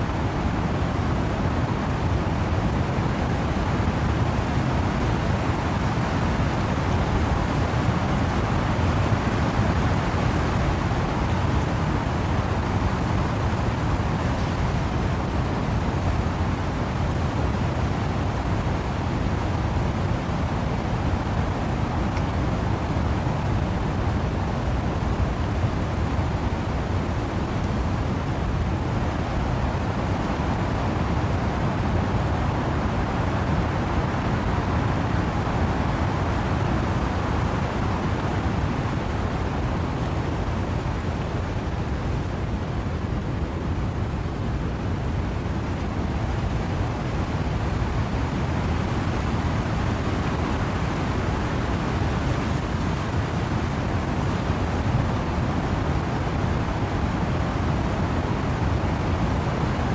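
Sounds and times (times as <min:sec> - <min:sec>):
wind and rain in trees: 0:00.0 - 0:59.9.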